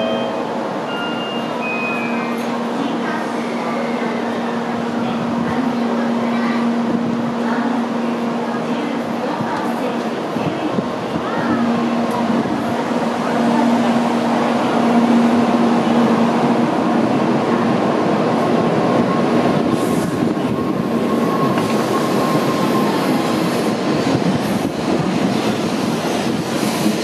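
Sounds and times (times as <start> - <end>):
train rushing past rumbling: 0.0 - 27.0.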